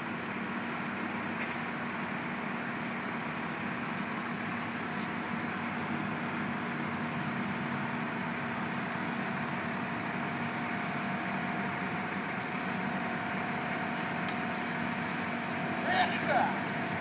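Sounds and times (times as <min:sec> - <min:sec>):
paving machine engine idling: 0:00.0 - 0:17.0.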